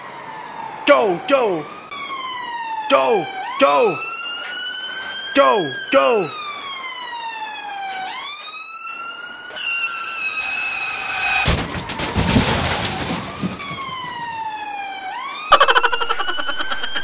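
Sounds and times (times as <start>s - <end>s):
police siren wailing: 0.0s - 17.0s
siren pulsing yelp: 0.0s - 17.0s.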